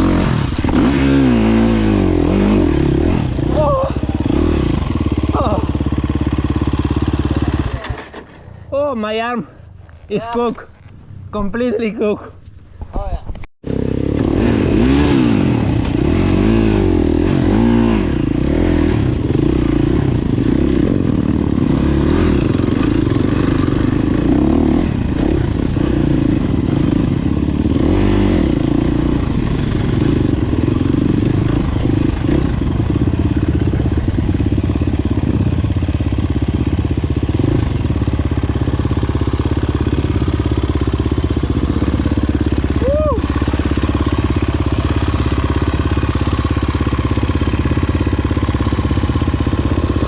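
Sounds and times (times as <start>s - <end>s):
dirt bike engine revving: 0.0s - 8.3s, 13.6s - 50.0s.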